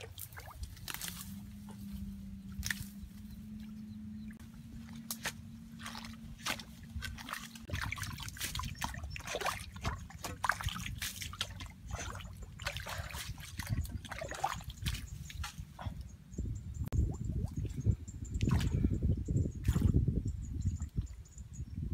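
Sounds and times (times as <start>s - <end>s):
muddy water sloshing and splashing: 0.0s - 16.1s, 16.9s - 21.2s
low steady hum: 0.0s - 21.7s.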